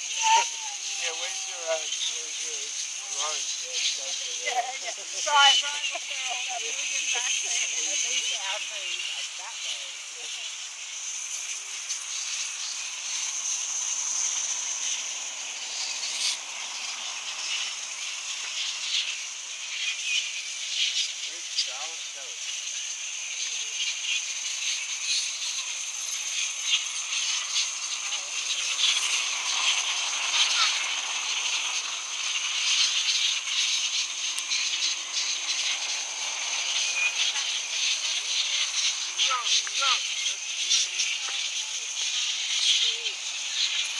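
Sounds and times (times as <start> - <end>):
fruit bats squeaking and screeching: 0.0 - 43.9
steady high whine: 0.0 - 43.9.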